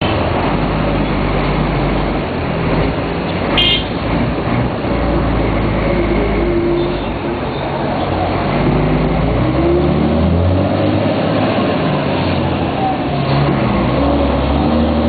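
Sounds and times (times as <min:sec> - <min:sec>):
diesel bus engine droning: 0:00.0 - 0:15.0.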